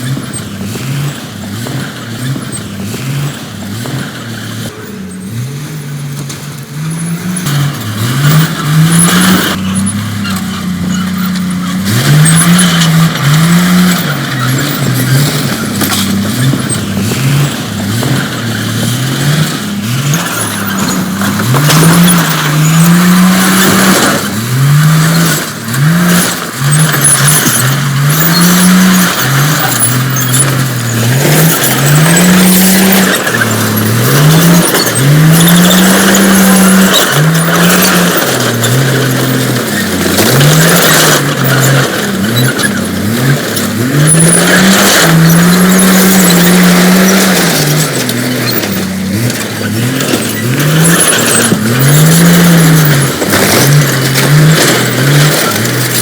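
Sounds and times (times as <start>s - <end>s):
bulldozer diesel engine revving: 0.0s - 56.0s.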